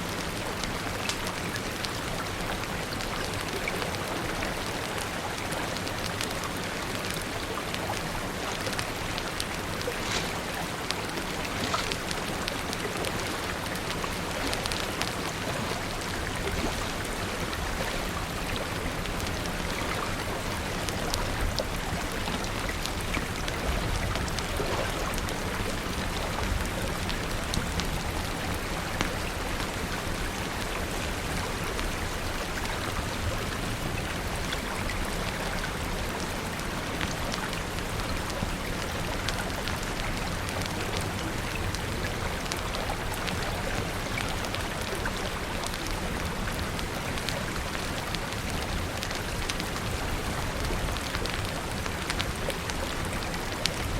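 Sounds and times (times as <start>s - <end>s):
river rushing: 0.0s - 53.9s
steady rain: 0.0s - 53.9s
wood fire crackling: 0.1s - 53.9s.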